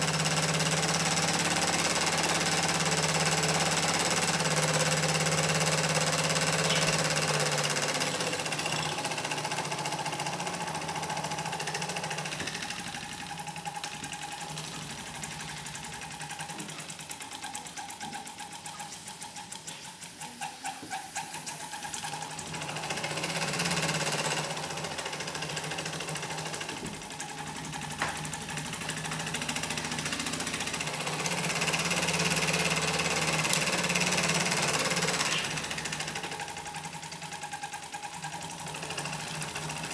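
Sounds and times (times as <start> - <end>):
toy steam engine clattering: 0.0 - 39.9.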